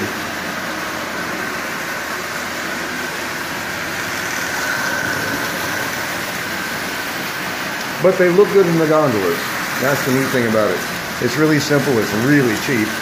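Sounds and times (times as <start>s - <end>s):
faint motor whine: 0.0s - 13.0s
toy train wheels rumbling on rails: 0.0s - 13.0s.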